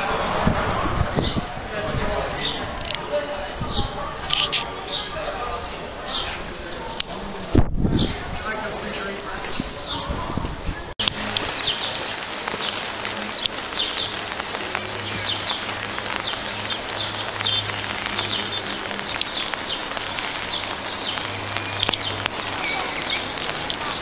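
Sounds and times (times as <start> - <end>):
small birds chirping: 3.6 - 7.2, 7.9 - 24.0.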